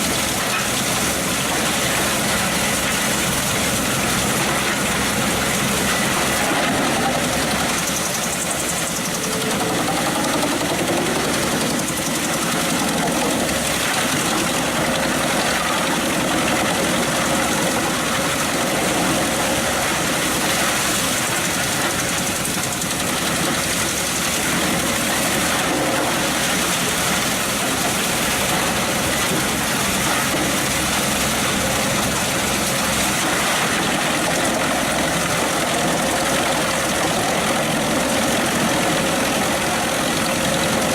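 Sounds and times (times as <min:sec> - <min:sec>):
wood chipper running: 0:00.0 - 0:40.9.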